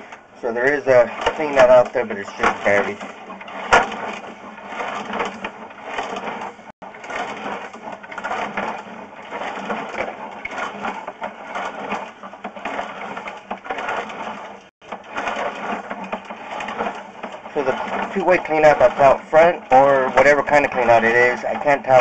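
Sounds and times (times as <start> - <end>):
cable and reel rattling: 0.0 - 22.0.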